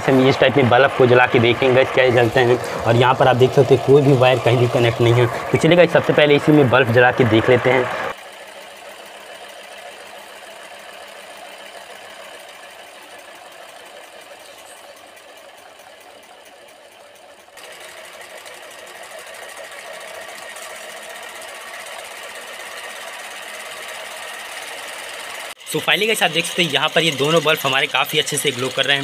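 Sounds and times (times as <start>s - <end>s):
steam engine mechanical whir: 0.0s - 29.0s.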